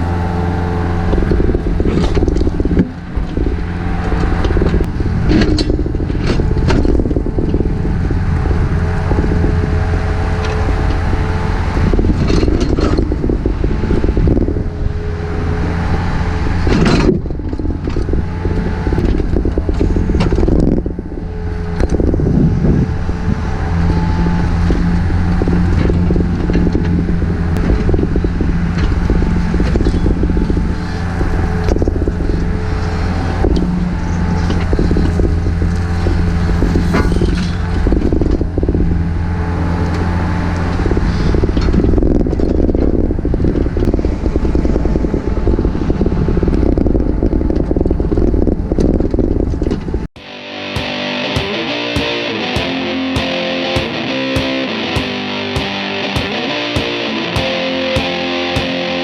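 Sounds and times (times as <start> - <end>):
excavator diesel engine running: 0.0 - 43.4, 50.2 - 59.0.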